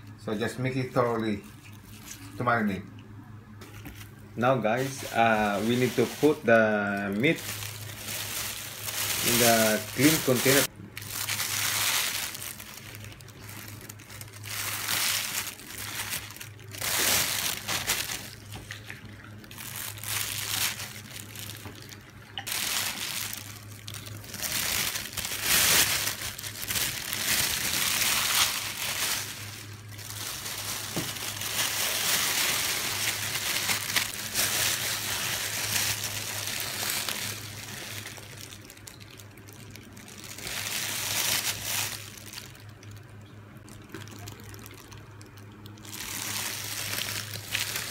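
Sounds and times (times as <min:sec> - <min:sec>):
wet squishing of meat: 0:01.3 - 0:02.5, 0:03.6 - 0:47.9
plastic bag crinkling: 0:03.6 - 0:47.9.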